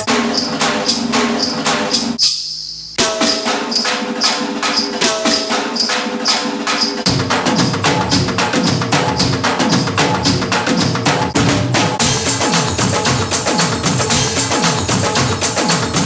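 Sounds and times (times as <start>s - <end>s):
drum strokes: 0.0s - 16.0s.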